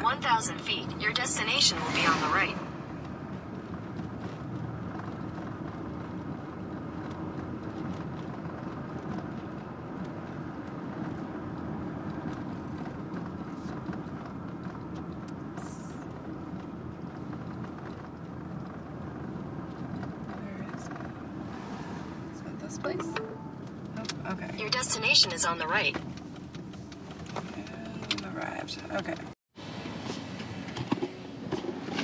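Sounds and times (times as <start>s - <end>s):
road and engine noise in car: 0.0s - 32.0s.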